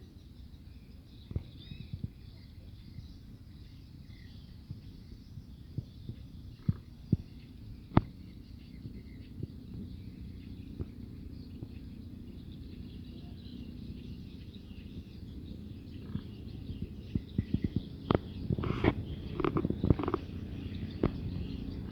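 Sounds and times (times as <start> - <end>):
faint bird chirps: 0.0 - 21.9.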